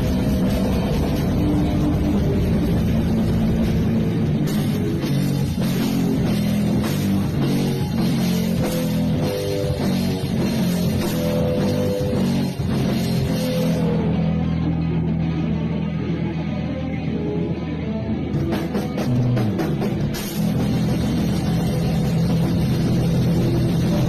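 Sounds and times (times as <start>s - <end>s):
drum kit hits: 0.0s - 14.0s, 18.4s - 24.0s
distorted electric guitar: 0.0s - 24.0s.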